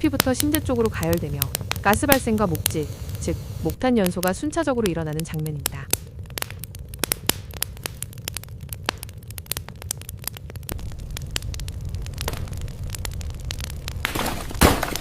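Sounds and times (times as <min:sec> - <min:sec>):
fire hiss: 0:00.0 - 0:15.0
low rumble of stove: 0:00.0 - 0:15.0
wood fire crackling and popping: 0:00.0 - 0:15.0.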